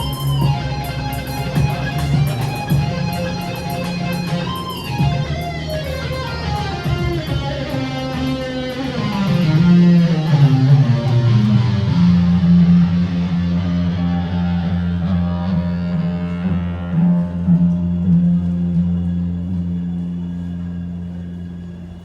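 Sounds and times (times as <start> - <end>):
electric guitar notes: 0.0 - 22.0.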